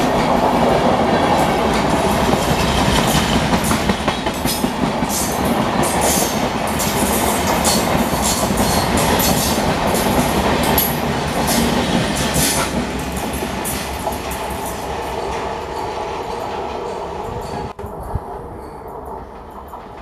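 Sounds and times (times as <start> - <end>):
train rumble: 0.0 - 20.0
train wheels clicking over rail joints: 0.0 - 20.0.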